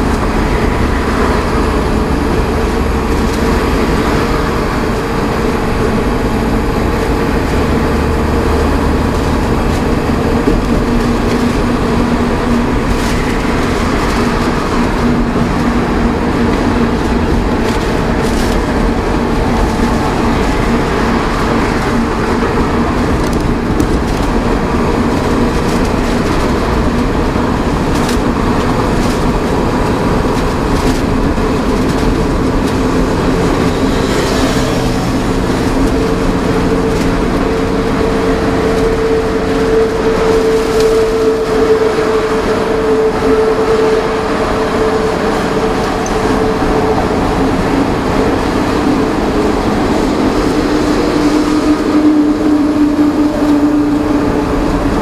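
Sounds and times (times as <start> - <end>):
truck engine and road noise in cab: 0.0 - 55.0.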